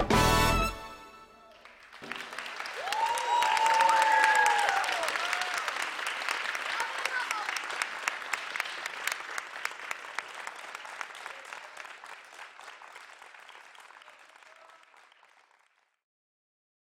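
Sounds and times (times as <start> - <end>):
audience applause: 1.3 - 16.0.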